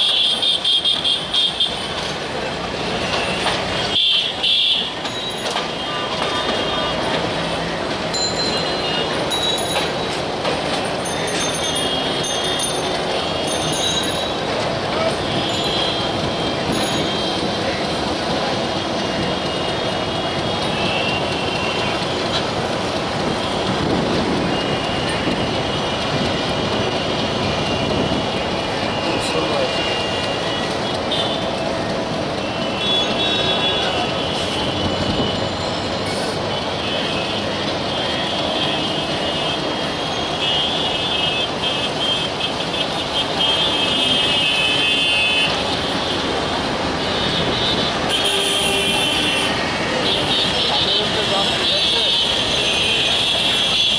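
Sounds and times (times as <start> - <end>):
train wheels rumbling on rails: 0.0 - 53.9
high-pitched locomotive whine: 4.9 - 53.9.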